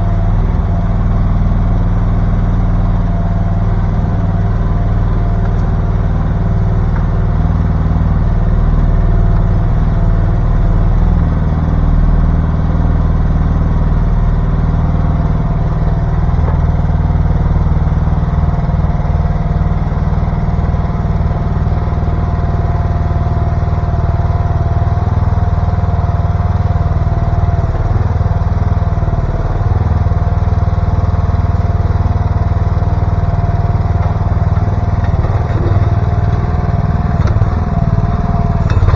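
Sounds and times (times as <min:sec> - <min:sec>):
excavator engine humming: 0:00.0 - 0:38.9.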